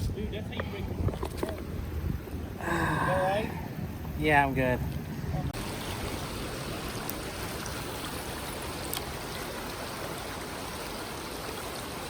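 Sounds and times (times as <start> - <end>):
river water flowing: 1.7 - 12.0.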